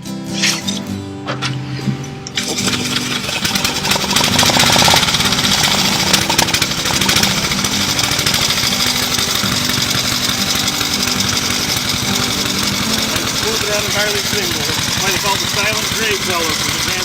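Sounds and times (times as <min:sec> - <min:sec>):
single-cylinder engine running: 0:01.6 - 0:17.0.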